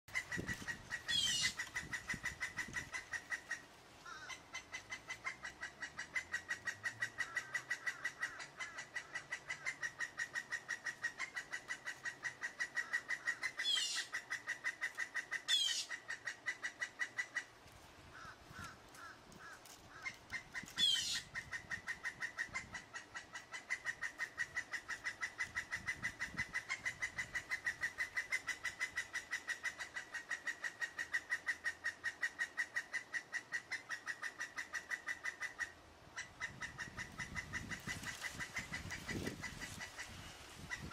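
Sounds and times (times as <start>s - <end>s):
woodpecker calling: 0.1s - 40.9s.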